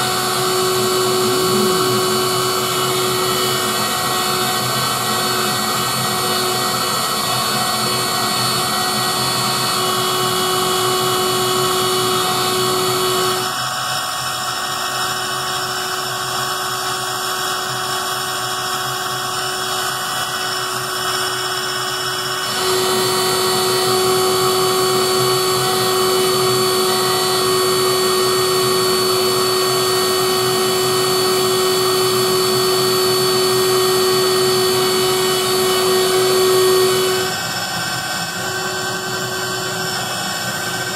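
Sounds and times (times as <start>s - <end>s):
engraver spindle whine: 0.0s - 13.5s, 18.6s - 40.9s
machine noise: 0.0s - 13.5s, 19.3s - 40.9s.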